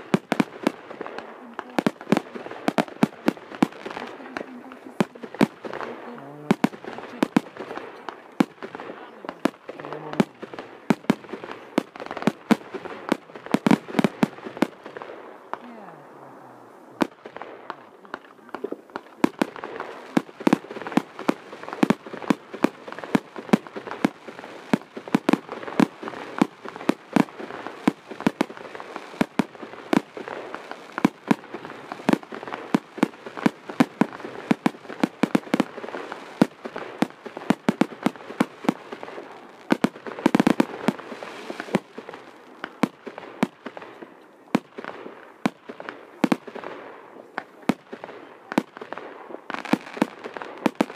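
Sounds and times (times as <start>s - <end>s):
fireworks bursting with sharp bangs: 0.0s - 50.9s.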